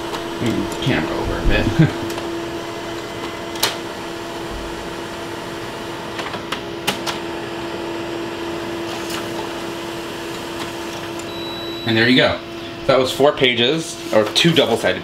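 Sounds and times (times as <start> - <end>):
laser printer humming: 0.0 - 15.0.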